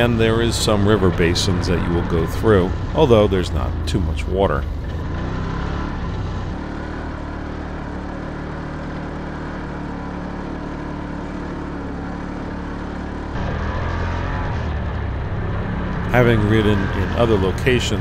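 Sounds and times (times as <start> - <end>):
utv engine drone: 0.0 - 18.0.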